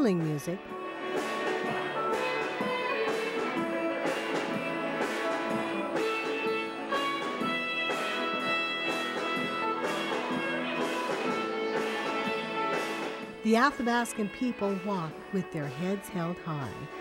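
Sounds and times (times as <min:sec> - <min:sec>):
fiddle dance tune with band: 0:00.1 - 0:17.0.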